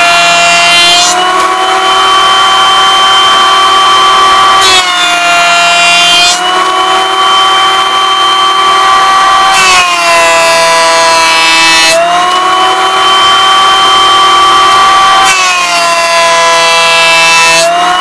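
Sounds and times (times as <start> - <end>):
bench planer whining: 0.0 - 18.0.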